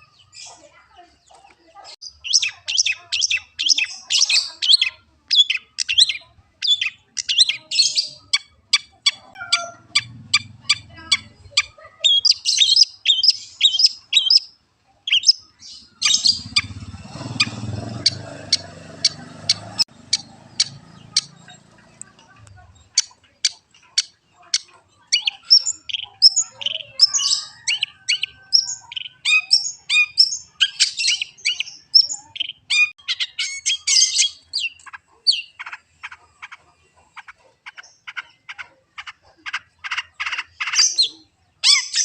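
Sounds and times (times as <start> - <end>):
bird chirping and trilling: 0.0 - 42.0.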